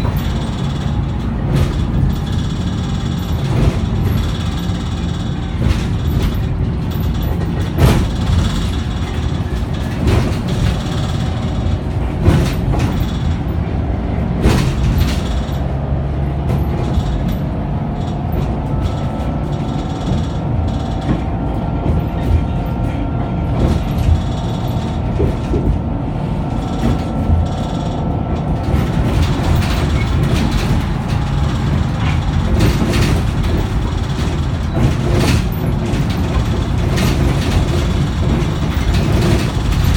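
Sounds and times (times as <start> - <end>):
body rattles and knocks: 0.0 - 39.9
bus engine rumble: 0.0 - 39.9.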